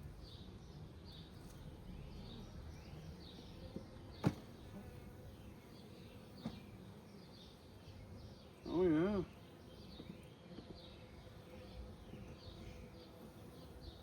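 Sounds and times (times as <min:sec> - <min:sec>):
bird chirping: 0:00.0 - 0:14.0
honeybees humming: 0:00.0 - 0:14.0.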